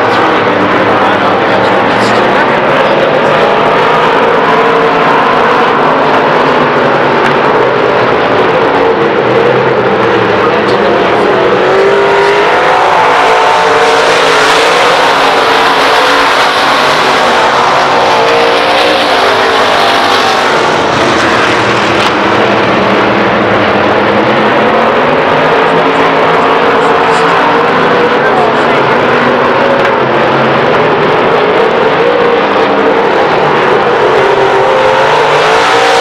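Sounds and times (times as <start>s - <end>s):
race car engines at full throttle: 0.0s - 36.0s.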